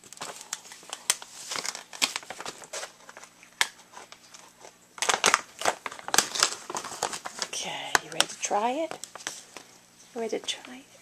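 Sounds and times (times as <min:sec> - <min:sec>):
packaging crinkling: 0:00.0 - 0:09.9.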